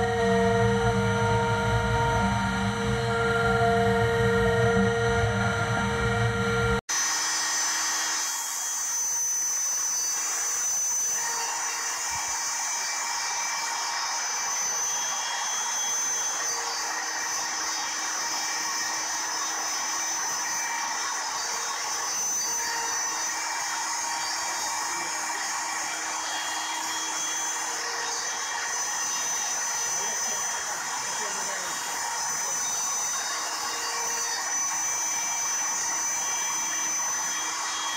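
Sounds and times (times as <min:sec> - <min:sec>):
router whining carving wood: 0:00.0 - 0:37.9.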